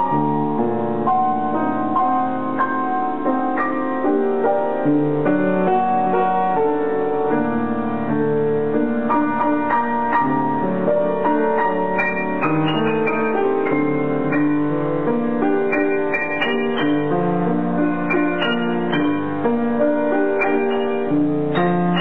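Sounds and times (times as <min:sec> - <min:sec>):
grand piano playing: 0:00.0 - 0:22.0.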